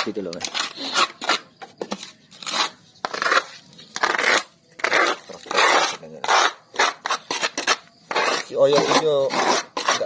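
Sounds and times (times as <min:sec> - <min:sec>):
hand tool rasping wood: 0:00.4 - 0:01.5, 0:02.4 - 0:10.0.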